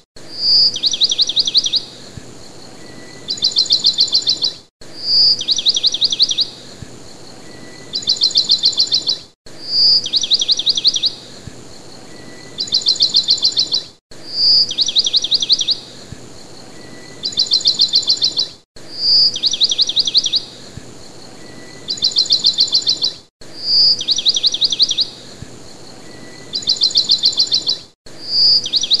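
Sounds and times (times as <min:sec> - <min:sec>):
songbird trilling: 0:00.3 - 0:01.9, 0:02.5 - 0:06.6, 0:07.2 - 0:11.3, 0:12.0 - 0:15.9, 0:16.5 - 0:25.2, 0:25.8 - 0:29.0.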